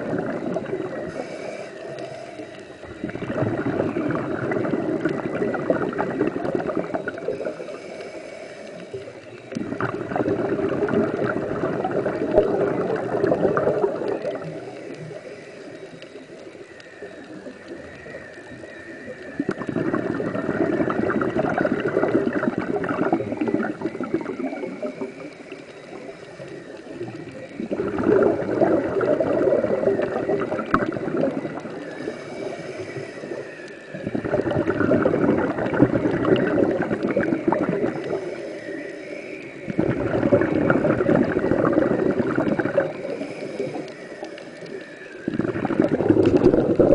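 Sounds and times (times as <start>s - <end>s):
regulator bubbles underwater: 0.0s - 46.9s.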